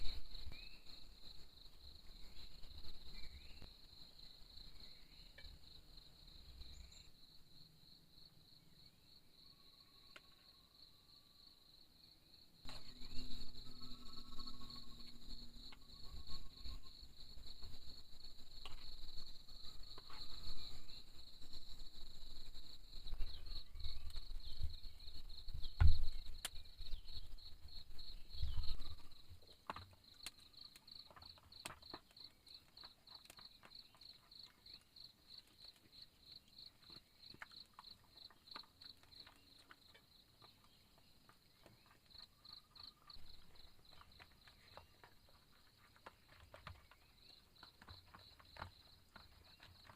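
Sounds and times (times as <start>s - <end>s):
insect chirping: 0.0s - 49.9s.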